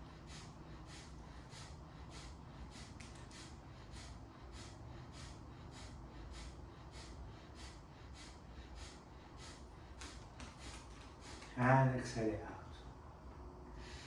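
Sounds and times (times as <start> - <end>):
forceful nasal exhalations: 0.0 - 11.6.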